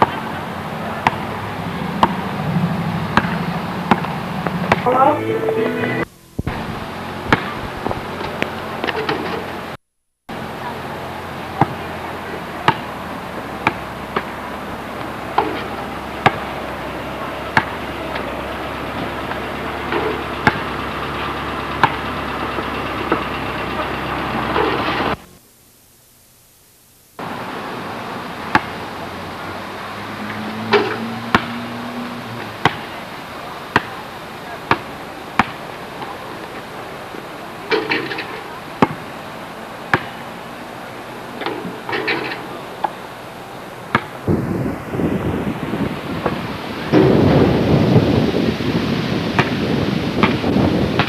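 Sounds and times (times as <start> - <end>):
steady background noise: 0.0 - 51.0
videotape hiss: 0.0 - 51.0.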